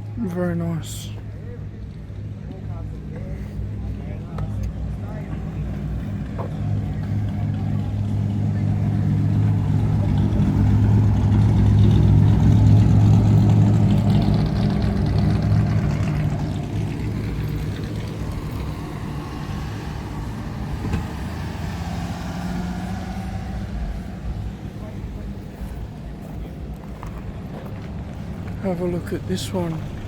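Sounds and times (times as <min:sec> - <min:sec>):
vehicle engine low hum: 0:00.0 - 0:30.0.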